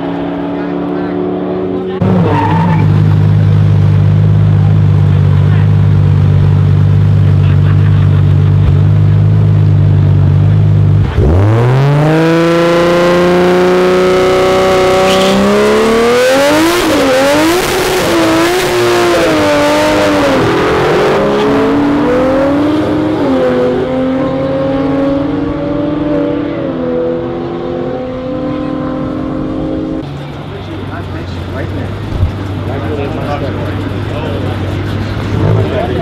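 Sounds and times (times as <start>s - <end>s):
drag racing car engine revving: 0.0s - 36.0s.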